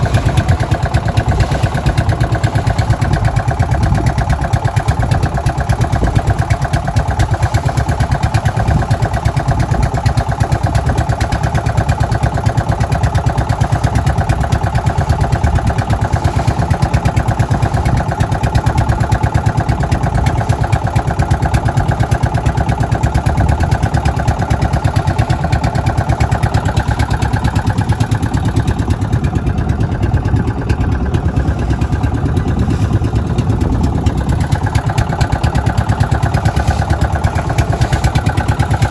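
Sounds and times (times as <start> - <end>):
small boat engine running: 0.0 - 38.9.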